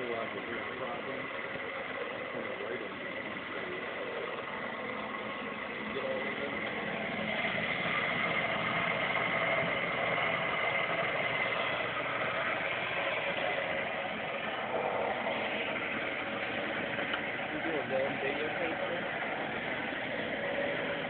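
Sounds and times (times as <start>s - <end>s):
radial engine mechanical whir: 0.0s - 21.0s.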